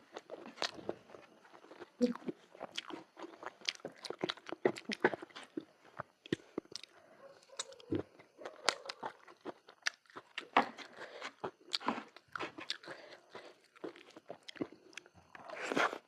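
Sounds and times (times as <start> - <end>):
person chewing and crunching food: 0.0 - 16.0.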